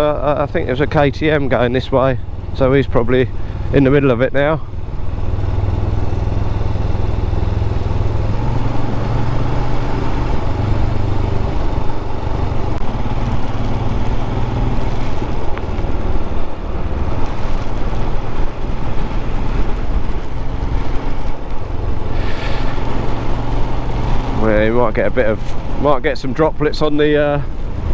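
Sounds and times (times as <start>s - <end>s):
motorcycle engine cruising: 0.0s - 26.2s
wind noise: 0.0s - 27.9s.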